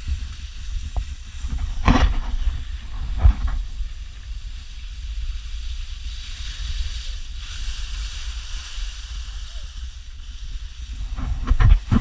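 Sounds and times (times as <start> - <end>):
wind buffeting microphone: 0.0 - 8.4, 9.6 - 12.0.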